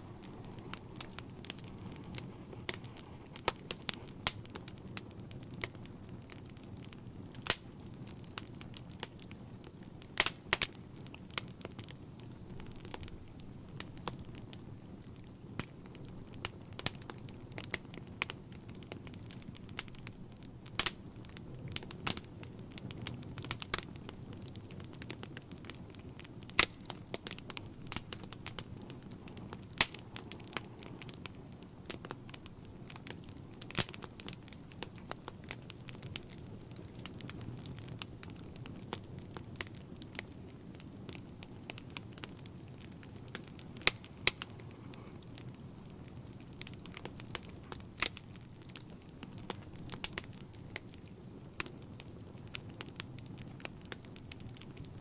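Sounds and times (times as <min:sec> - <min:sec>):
logs popping and crackling: 0:00.0 - 0:55.0
low rumble of flames: 0:00.0 - 0:55.0.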